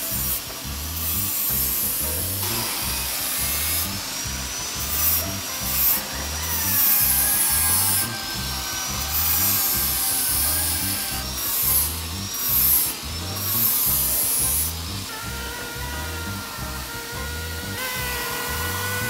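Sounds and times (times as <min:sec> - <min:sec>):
angle grinder grinding metal: 0:00.0 - 0:19.0
background music with bass beat: 0:00.0 - 0:19.0.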